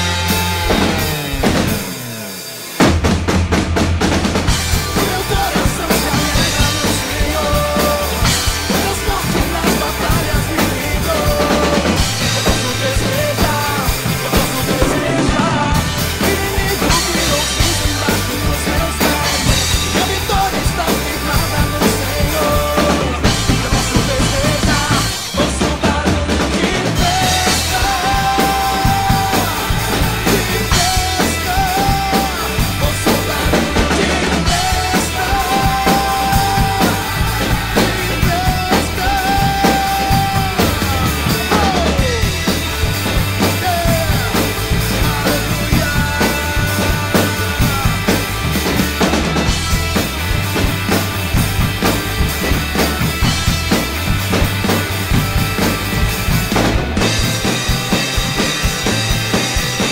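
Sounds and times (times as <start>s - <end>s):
backing song: 0.0s - 59.9s
drum kit playing: 0.0s - 59.9s.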